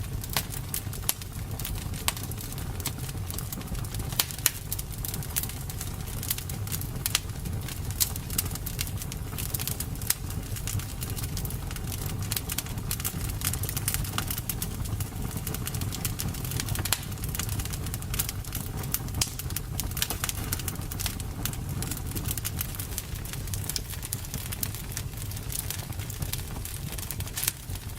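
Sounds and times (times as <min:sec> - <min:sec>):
bonfire crackling and popping: 0:00.0 - 0:27.9
low rumble of flames: 0:00.0 - 0:27.9.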